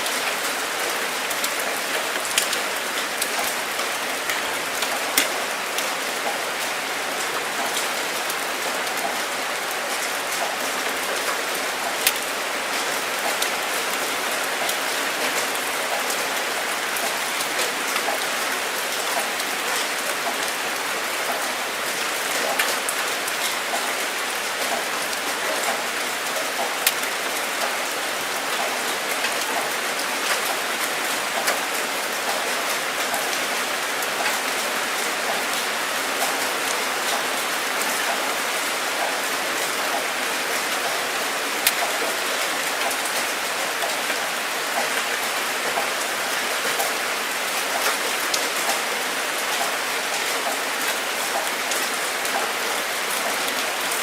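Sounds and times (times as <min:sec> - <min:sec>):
rain drops pattering: 0:00.0 - 0:54.0.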